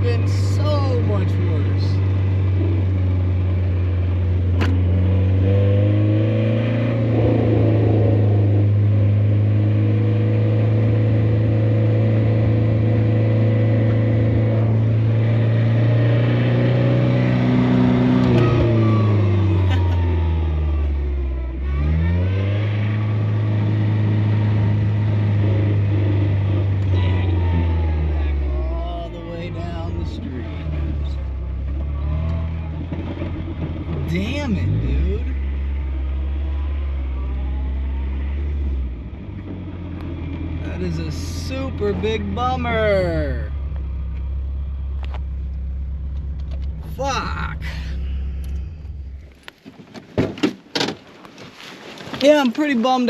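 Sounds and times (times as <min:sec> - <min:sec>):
car engine drone from cabin: 0:00.0 - 0:49.7.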